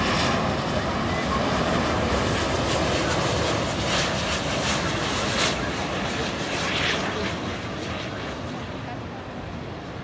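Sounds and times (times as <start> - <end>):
jet engine roar: 0.0 - 10.0.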